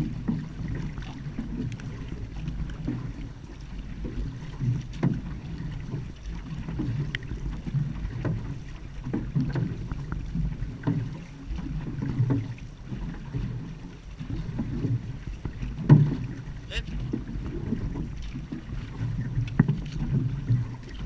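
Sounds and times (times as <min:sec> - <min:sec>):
paddles stroking water: 0:00.0 - 0:21.0
water splashing along hull: 0:00.0 - 0:21.0
wind rumble on microphone: 0:00.0 - 0:21.0.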